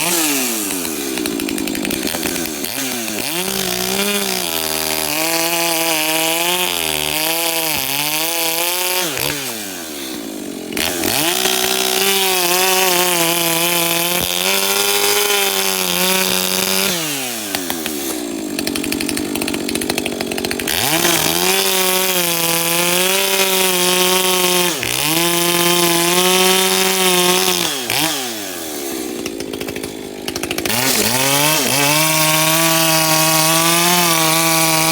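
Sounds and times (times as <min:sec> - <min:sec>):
chainsaw cutting through wood: 0:00.0 - 0:34.9.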